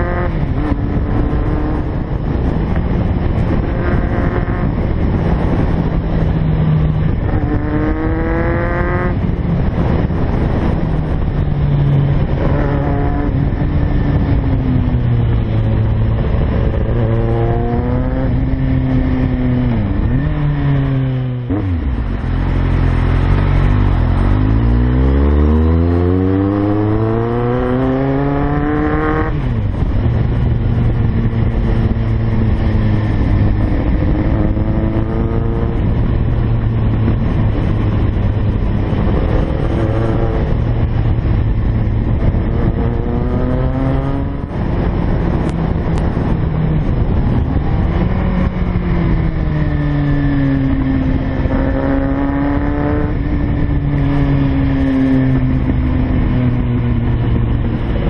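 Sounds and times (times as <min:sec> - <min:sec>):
motorcycle engine revving: 0:00.0 - 0:58.0
wind on microphone: 0:00.0 - 0:58.0.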